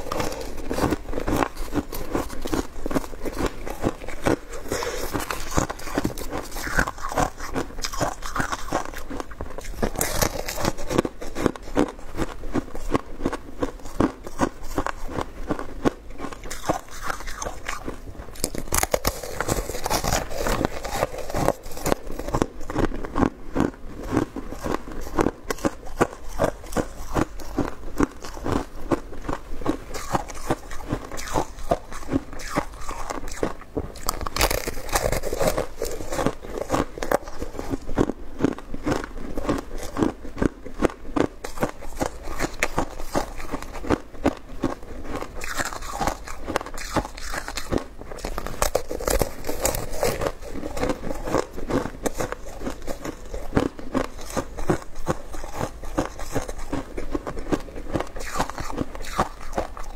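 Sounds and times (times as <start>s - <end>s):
person crunching shaved ice: 0.0s - 59.9s.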